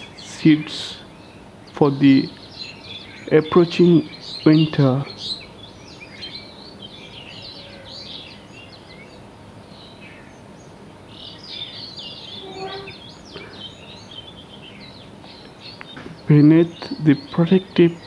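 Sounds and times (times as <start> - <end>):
lower fuller bird call: 0.0 - 16.0
birds chirping and trilling: 0.0 - 18.0.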